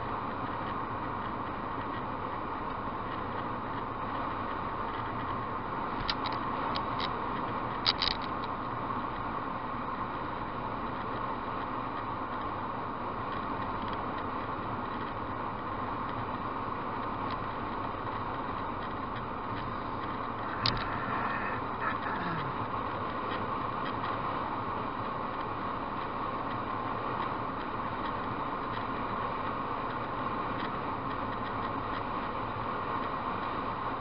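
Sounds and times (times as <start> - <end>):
road and tyre noise in car: 0.0 - 34.0.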